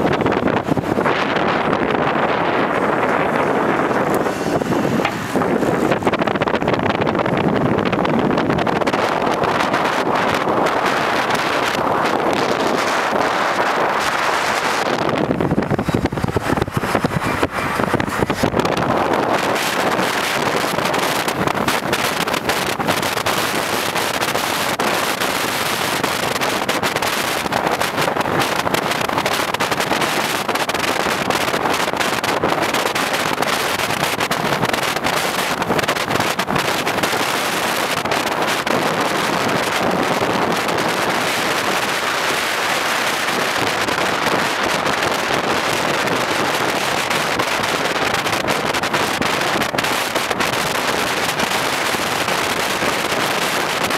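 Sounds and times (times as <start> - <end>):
wind on microphone: 0.0 - 53.9.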